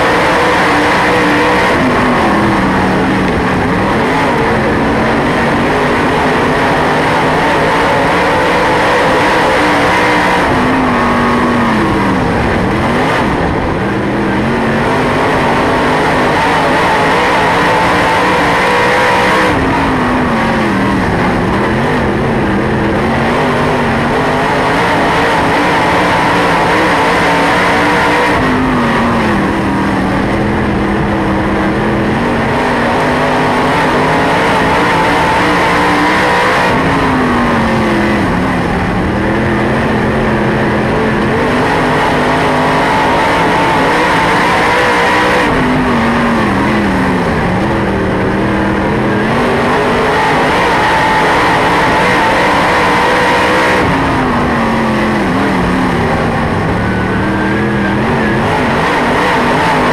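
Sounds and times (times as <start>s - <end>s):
race car engine at speed: 0.0s - 59.9s.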